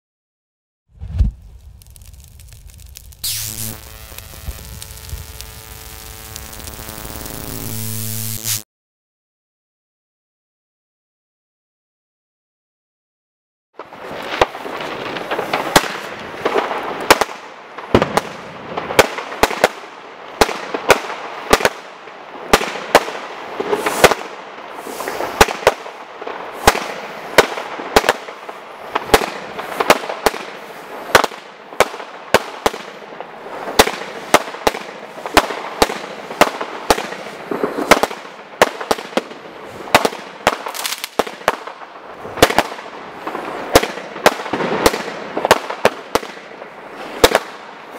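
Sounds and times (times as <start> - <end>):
firework bangs: 1.0 - 8.6, 13.8 - 47.9
firework hiss and crackle: 1.0 - 8.6, 13.8 - 47.9.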